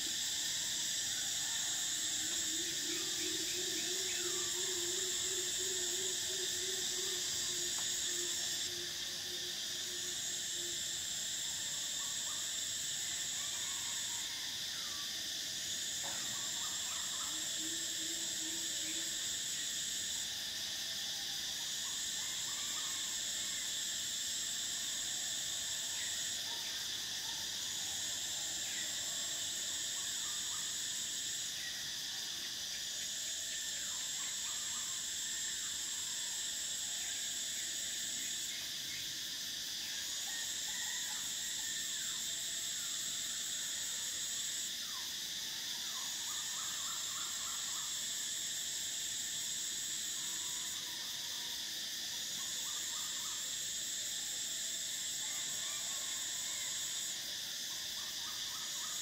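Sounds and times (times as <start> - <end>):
cicadas droning: 0.0 - 59.0
faint insect calls and trills: 0.0 - 59.0
higher cicada buzz: 0.0 - 59.0.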